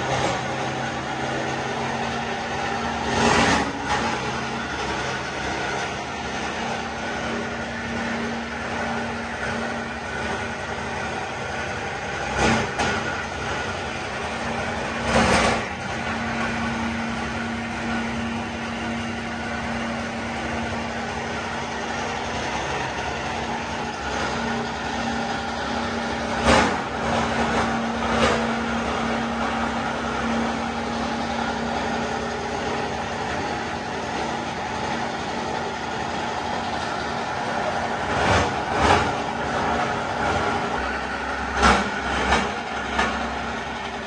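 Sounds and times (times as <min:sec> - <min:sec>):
factory machinery running: 0:00.0 - 0:44.0.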